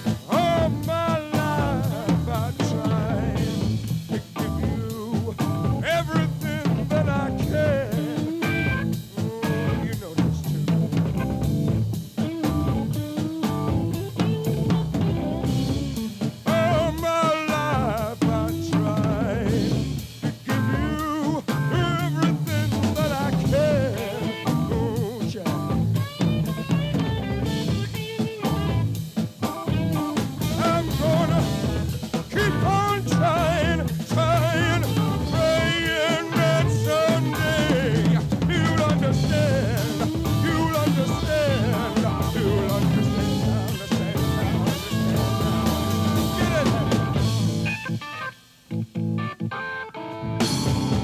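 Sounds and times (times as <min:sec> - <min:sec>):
drum kit: 0:00.0 - 0:49.5, 0:50.2 - 0:51.0
blues-rock band playing: 0:00.0 - 0:51.0.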